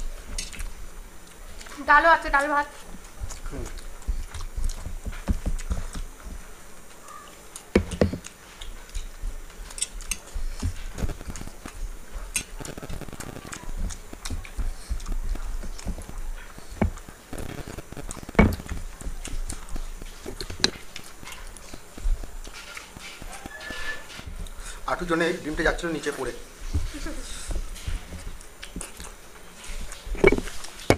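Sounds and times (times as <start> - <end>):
fingers mixing rice: 2.7 - 30.9
chewing and lip smacks: 2.8 - 24.7, 27.1 - 30.9.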